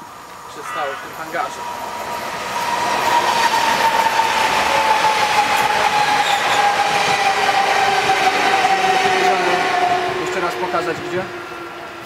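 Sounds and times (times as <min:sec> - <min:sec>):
high train whine: 0:00.0 - 0:12.0
electric train rolling: 0:00.1 - 0:12.0.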